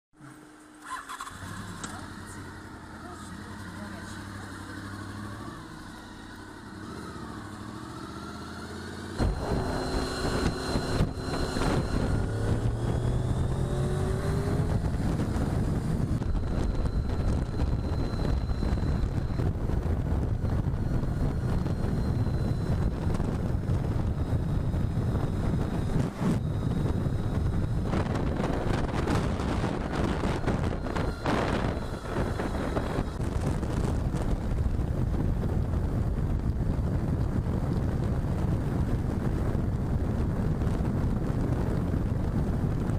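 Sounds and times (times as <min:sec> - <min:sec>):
motorcycle engine: 0:00.2 - 0:42.9
road and wind noise: 0:00.2 - 0:42.9.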